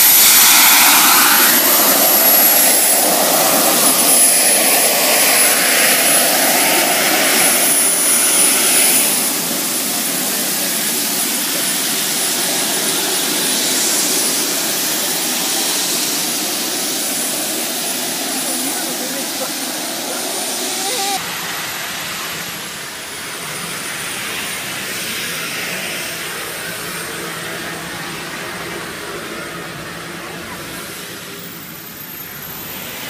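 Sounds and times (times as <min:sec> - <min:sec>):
gas turbine engine roar: 0:00.0 - 0:33.0
high-pitched turbine whine: 0:00.0 - 0:33.0.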